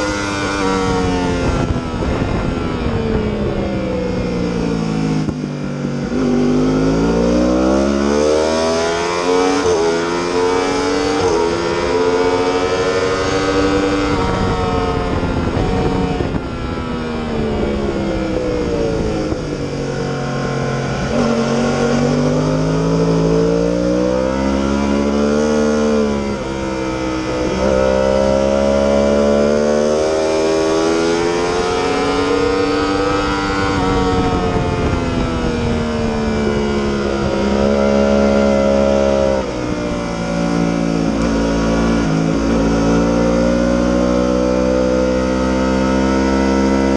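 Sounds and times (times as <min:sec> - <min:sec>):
motorcycle engine revving with gearshifts: 0:00.0 - 0:46.9.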